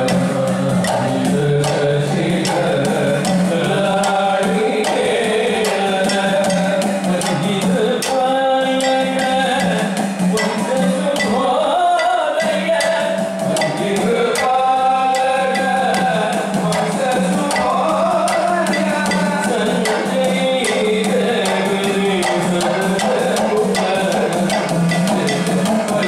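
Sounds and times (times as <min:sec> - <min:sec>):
hourglass drum beats: 0:00.0 - 0:26.0
men singing slow melody: 0:00.0 - 0:26.0
small hand cymbals: 0:00.0 - 0:26.0.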